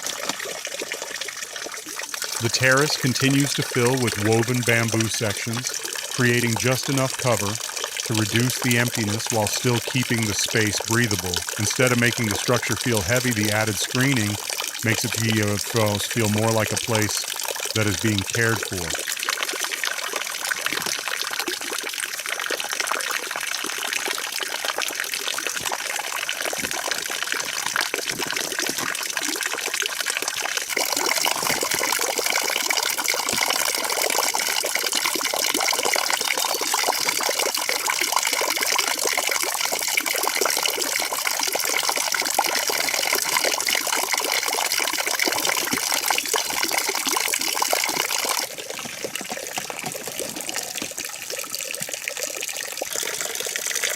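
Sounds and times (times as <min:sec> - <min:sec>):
water running: 0:00.0 - 0:53.9.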